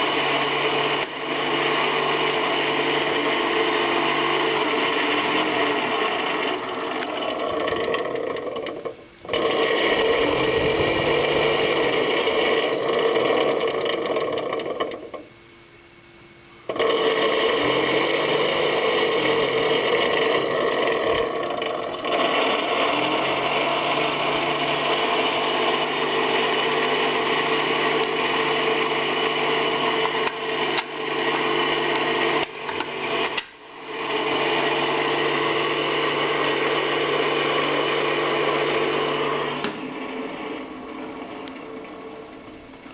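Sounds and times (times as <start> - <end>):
small fan motor whirring: 0.0 - 42.9.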